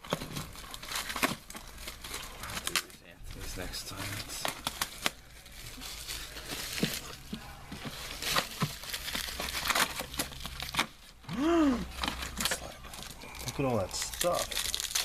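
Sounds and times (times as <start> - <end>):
card packaging crinkling and tearing: 0.0 - 15.0.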